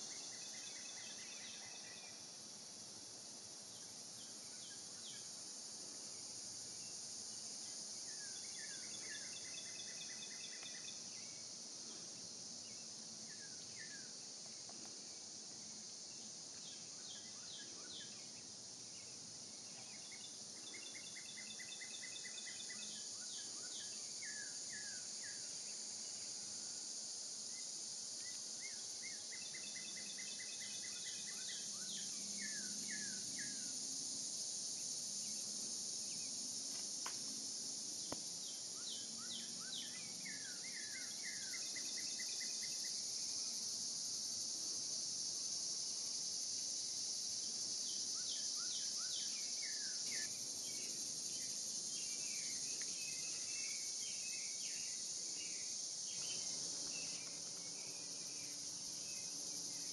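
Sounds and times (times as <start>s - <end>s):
songbird chirping: 0.0s - 2.8s, 3.5s - 26.6s, 27.4s - 59.9s
insect chorus drone: 0.0s - 59.9s.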